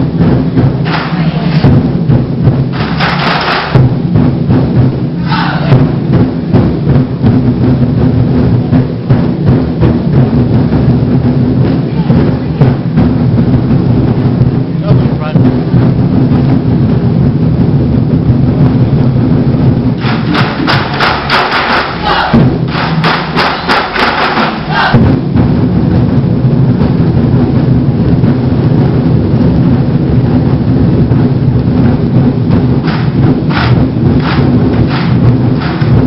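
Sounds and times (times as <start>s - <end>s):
large drums playing loud rhythm: 0.0s - 36.0s.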